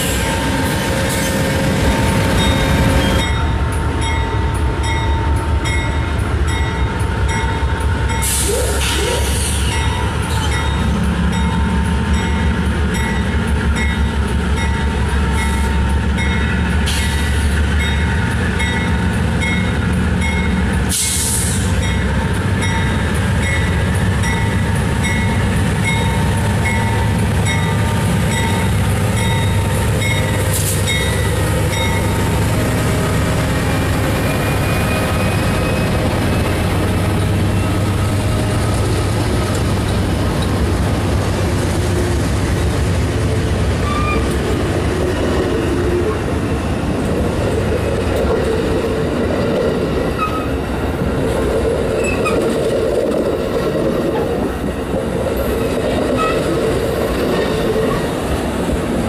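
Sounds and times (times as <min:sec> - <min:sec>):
diesel locomotive engine rumbling: 0:00.0 - 0:59.0.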